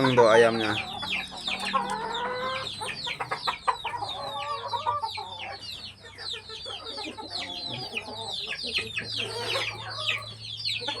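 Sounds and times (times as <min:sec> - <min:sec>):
chickens clucking and calling: 0:00.0 - 0:11.0.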